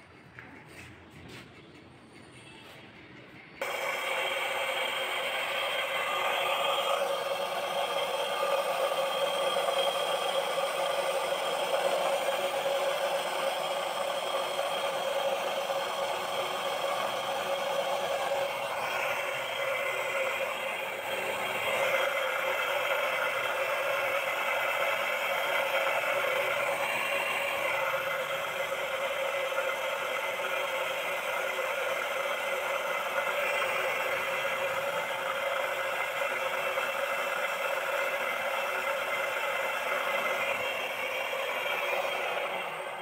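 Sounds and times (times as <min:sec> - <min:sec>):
grinding wheel on blade: 0:02.0 - 0:43.0
steady tone: 0:03.3 - 0:43.0.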